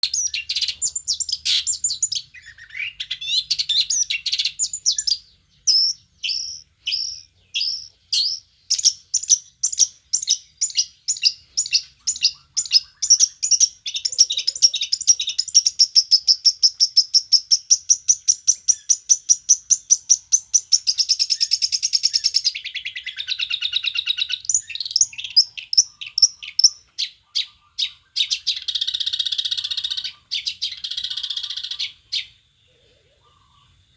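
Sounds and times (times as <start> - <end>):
harsh rasping bird chatter: 0.0 - 32.3.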